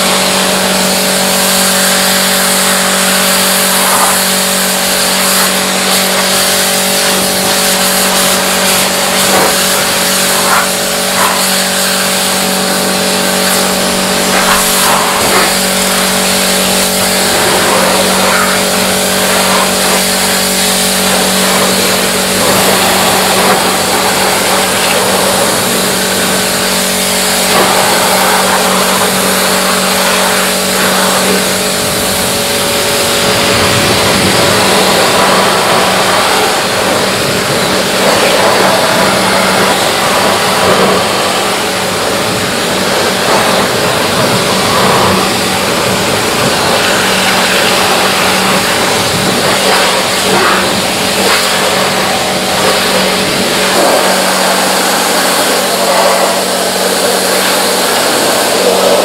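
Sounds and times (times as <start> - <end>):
loud hiss: 0.0 - 59.0
machine humming: 0.0 - 59.0.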